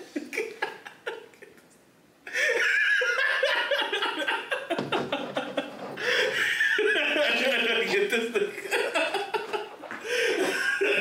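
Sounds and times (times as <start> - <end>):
men laughing: 0.0 - 1.6, 2.3 - 11.0.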